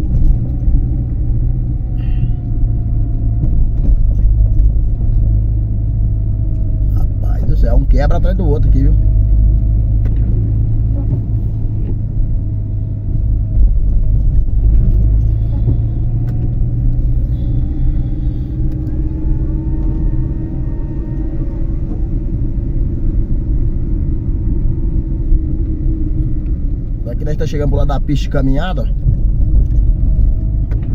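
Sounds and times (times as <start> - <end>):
engine and tyre rumble: 0.0 - 30.9
faint engine whine: 0.0 - 30.9.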